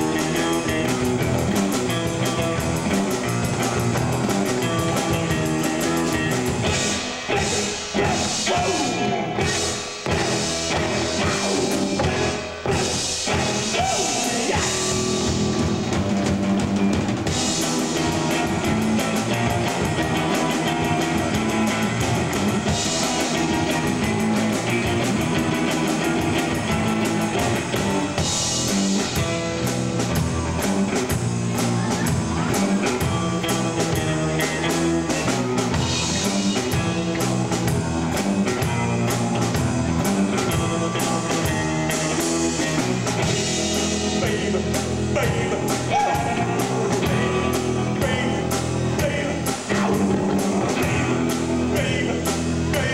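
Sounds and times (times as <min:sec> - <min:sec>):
rock band playing: 0:00.0 - 0:52.9.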